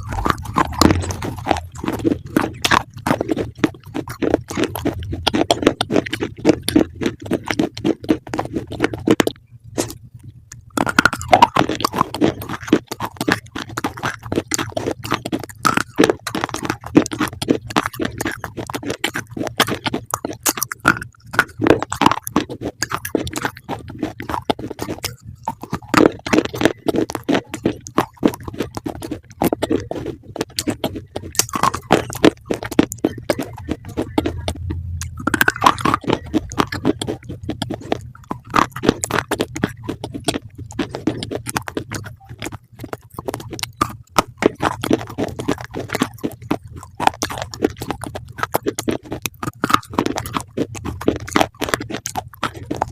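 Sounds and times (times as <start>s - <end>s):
crisp chewing crunches: 0.0s - 52.9s.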